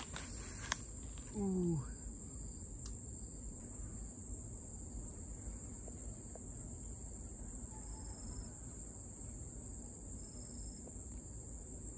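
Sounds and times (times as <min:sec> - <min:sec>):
crickets trilling: 0:00.0 - 0:11.9.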